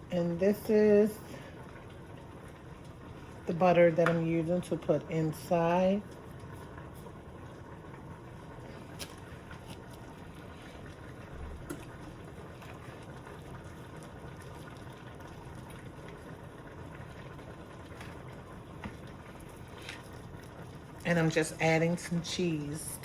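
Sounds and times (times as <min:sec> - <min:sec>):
kitchen background hiss: 0:00.0 - 0:23.0.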